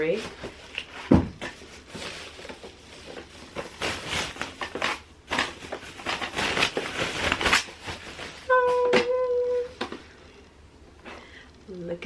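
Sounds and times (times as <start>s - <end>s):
packaging rustling and crinkling: 0.0s - 10.3s.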